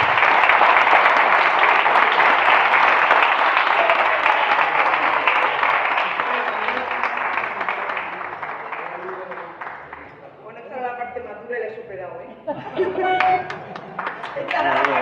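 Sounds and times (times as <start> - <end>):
crowd applauding: 0.0 - 10.3, 12.8 - 15.0.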